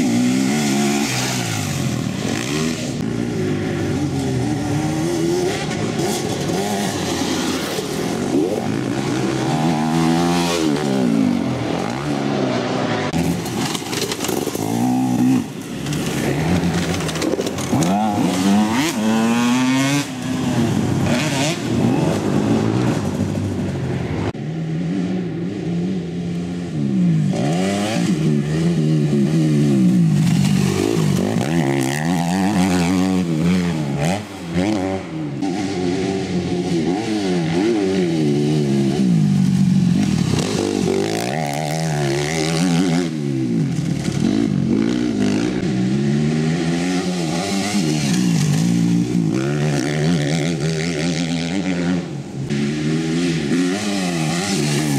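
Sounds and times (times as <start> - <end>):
motocross bike engines revving: 0.0 - 54.9.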